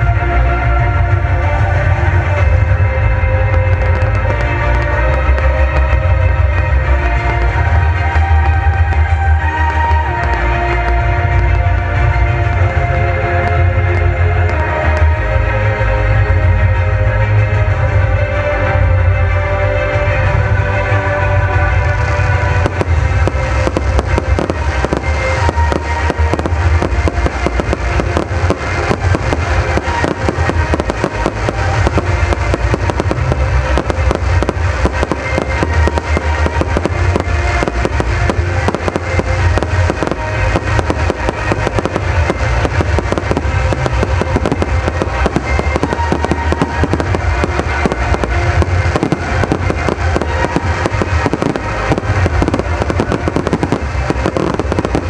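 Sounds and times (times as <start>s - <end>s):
deep rumble: 0.0s - 55.0s
fireworks bangs and crackling: 0.0s - 55.0s
music playing: 0.0s - 55.0s.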